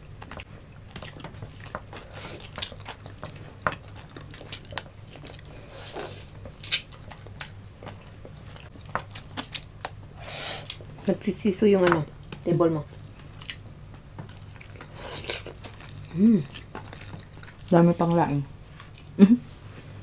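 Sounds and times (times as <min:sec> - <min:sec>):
low steady hum: 0:00.0 - 0:20.0
sucking and chewing: 0:00.2 - 0:10.8, 0:13.1 - 0:19.2.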